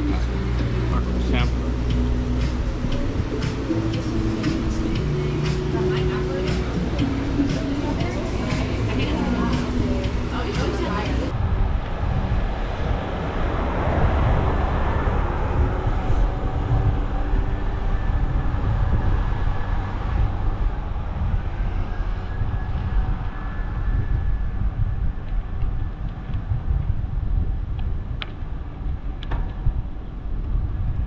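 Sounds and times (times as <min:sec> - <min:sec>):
road traffic: 0:00.0 - 0:31.0
wind rumble on microphone: 0:00.0 - 0:31.0.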